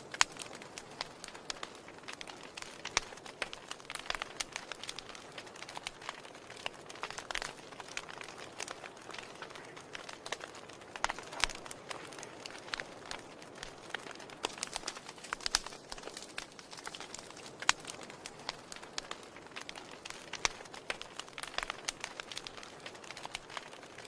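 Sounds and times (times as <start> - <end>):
low steady hiss: 0.0 - 24.0
wood fire crackling: 0.0 - 24.0.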